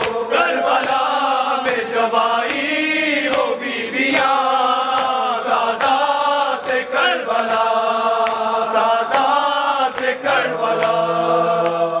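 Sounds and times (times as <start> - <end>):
chest-beating slaps: 0.0 - 11.9
men chanting slowly: 0.0 - 12.0.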